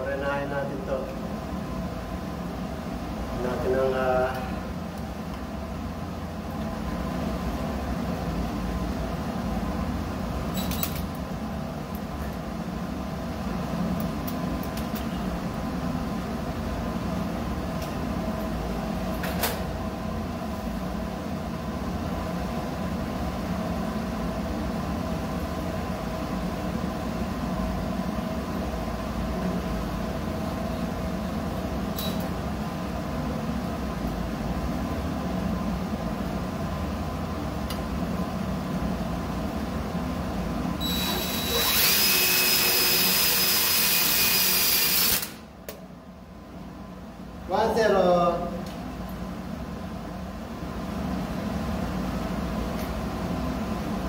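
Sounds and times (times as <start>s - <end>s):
faint hum: 0.0s - 54.0s.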